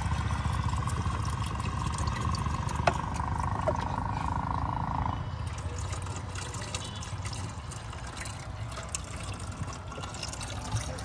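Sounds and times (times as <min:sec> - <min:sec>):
water pouring in small stream: 0:00.0 - 0:04.0, 0:05.4 - 0:11.0.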